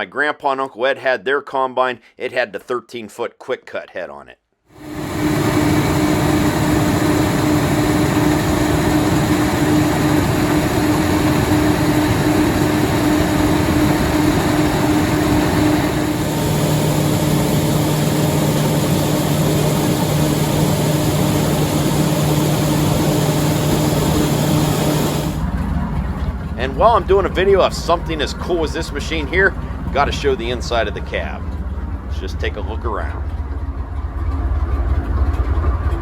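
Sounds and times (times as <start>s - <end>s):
combine harvester engine droning: 4.8s - 36.0s
deeper hum: 4.8s - 36.0s.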